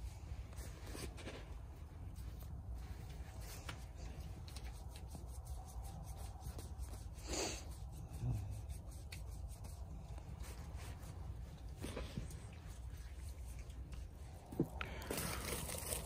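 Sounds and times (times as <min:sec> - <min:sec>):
hand rubbing dog fur: 0:00.1 - 0:14.5.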